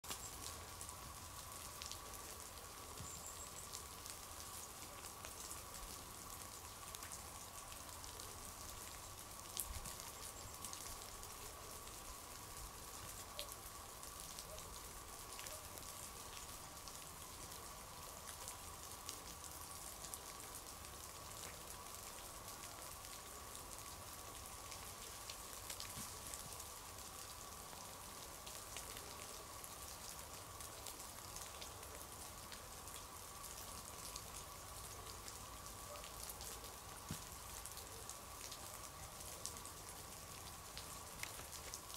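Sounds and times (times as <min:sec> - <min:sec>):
steady hiss: 0:00.0 - 0:41.9.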